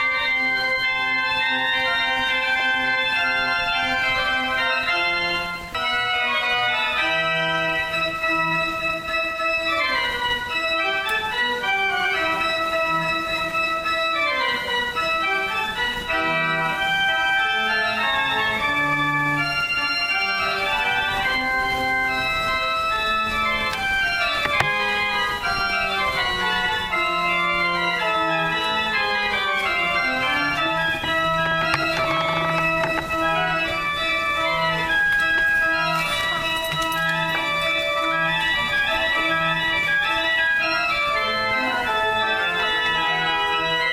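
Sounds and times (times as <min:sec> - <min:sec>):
organ music: 0:00.0 - 0:43.9.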